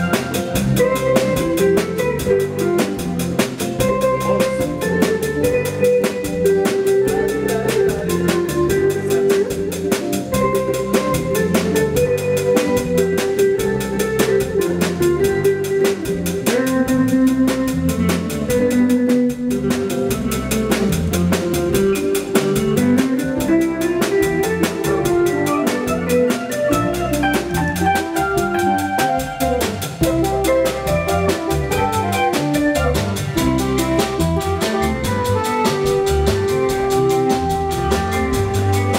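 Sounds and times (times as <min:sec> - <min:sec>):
drum kit fast beat: 0:00.0 - 0:38.9
live band music: 0:00.0 - 0:38.9.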